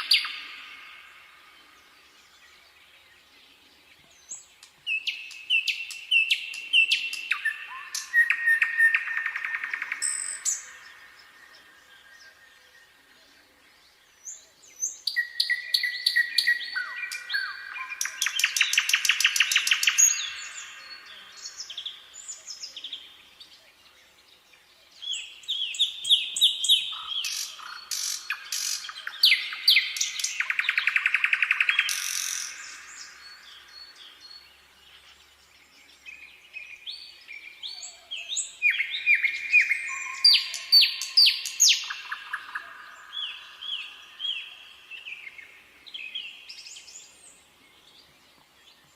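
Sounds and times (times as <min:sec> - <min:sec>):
nightingale singing: 0:00.0 - 0:48.9.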